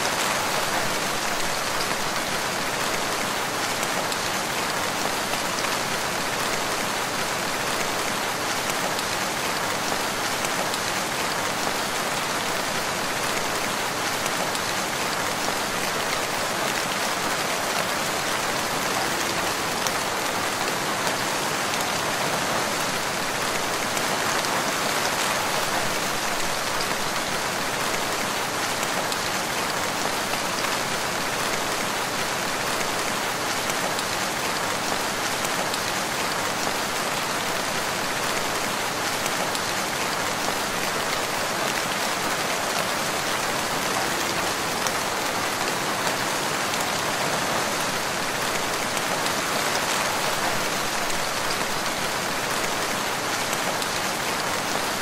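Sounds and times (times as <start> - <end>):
rain falling on leaves: 0.0 - 55.0.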